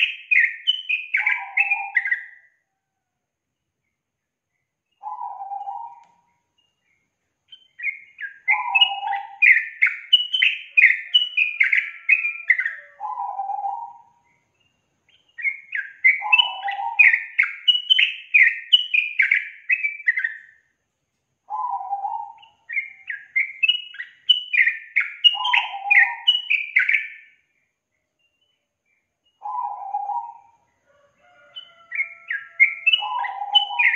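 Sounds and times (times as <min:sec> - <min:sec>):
bird singing whistled notes: 0:00.0 - 0:02.6, 0:04.6 - 0:20.6, 0:21.5 - 0:33.9.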